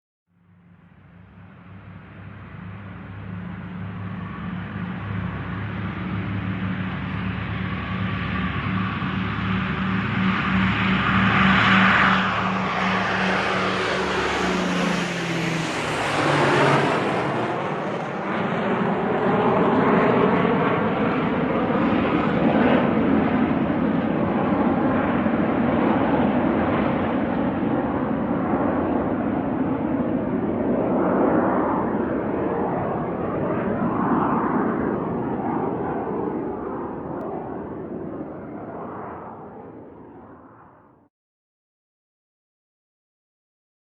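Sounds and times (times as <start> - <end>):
airplane engine roar: 0.3 - 41.1.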